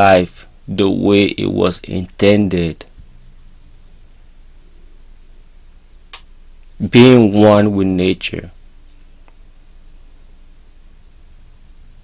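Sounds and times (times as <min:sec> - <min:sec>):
background hiss: 0:00.0 - 0:12.0
faint low hum: 0:00.0 - 0:12.0.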